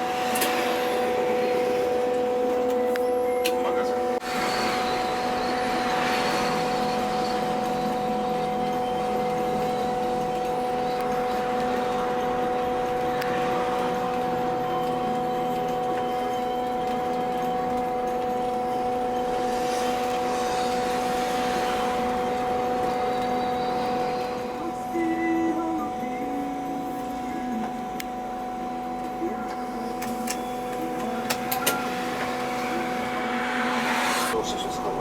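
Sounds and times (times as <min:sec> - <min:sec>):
road and rolling noise: 0:00.0 - 0:35.0
two-note electrical whine: 0:00.0 - 0:35.0.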